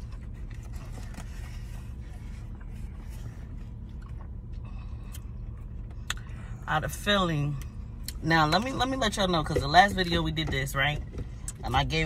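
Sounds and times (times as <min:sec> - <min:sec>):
low hum in car cabin: 0:00.0 - 0:12.0.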